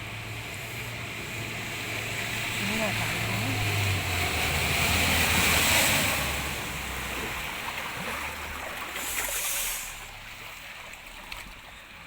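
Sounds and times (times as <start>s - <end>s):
floodwater rushing and splashing: 0.0s - 12.0s.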